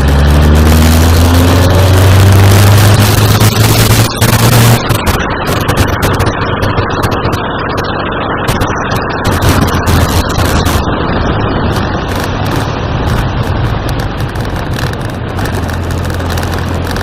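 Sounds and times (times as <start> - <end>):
motorcycle engine running: 0.0 - 17.0
rough rushing noise: 0.0 - 17.0.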